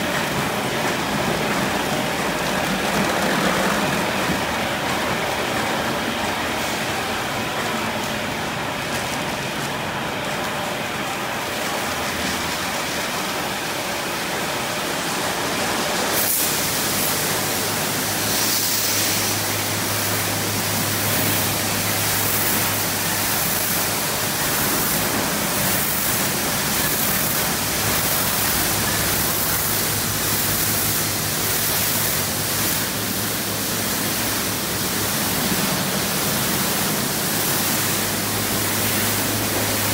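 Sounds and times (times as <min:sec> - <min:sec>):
car wash brushes and water spray: 0:00.0 - 0:39.9.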